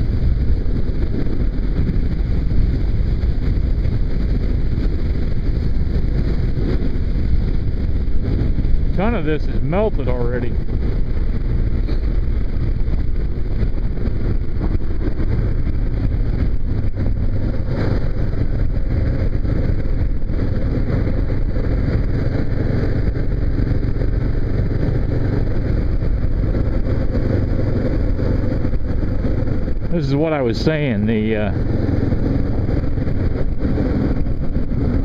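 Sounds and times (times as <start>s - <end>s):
motorcycle engine running: 0.0s - 35.0s
wind and road noise: 0.0s - 35.0s.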